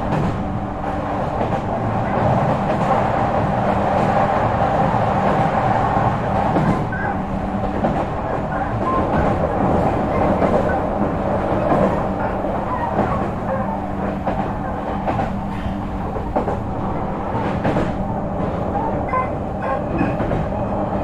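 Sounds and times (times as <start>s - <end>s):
rail joint clicks: 0.0s - 21.0s
train wheels rumbling on rail: 0.0s - 21.0s.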